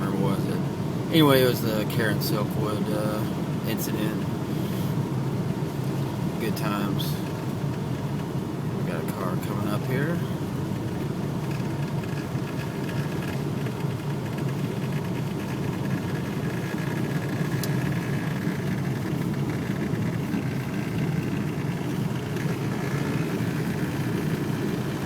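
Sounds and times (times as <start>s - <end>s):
car engine and road noise: 0.0s - 25.0s
faint steady whine: 0.0s - 25.0s.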